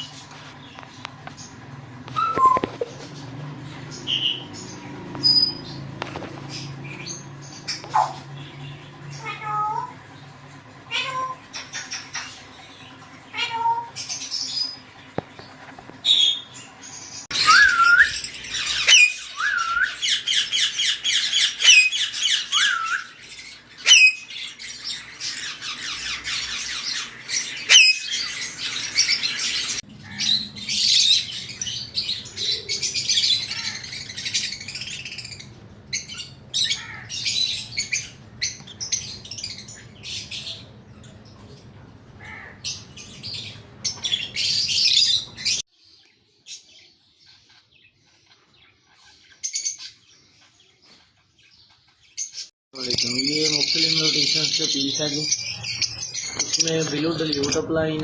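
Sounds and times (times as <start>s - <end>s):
parrots squawking and chirping: 0.0s - 57.7s.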